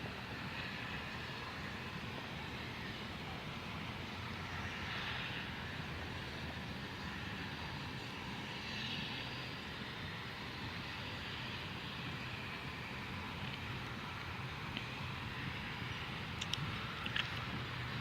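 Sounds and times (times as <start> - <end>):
steam train rumble and hiss: 0.0 - 18.0.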